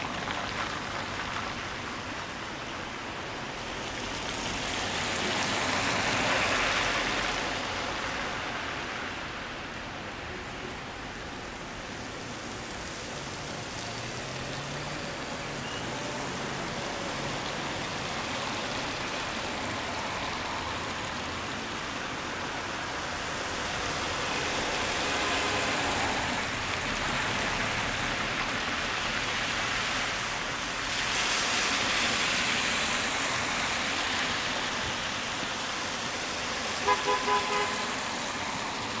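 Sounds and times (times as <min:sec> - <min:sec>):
car tyres hissing on wet road: 0:00.0 - 0:39.0
rain on street: 0:00.0 - 0:39.0.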